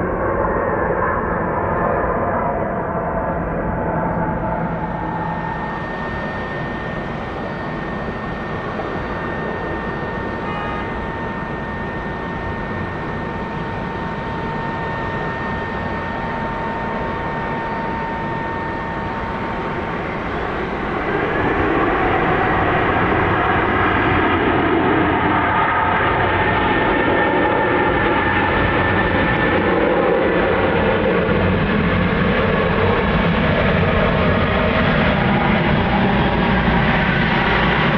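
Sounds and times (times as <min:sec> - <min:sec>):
jet engines roaring and whining: 0:00.0 - 0:37.9.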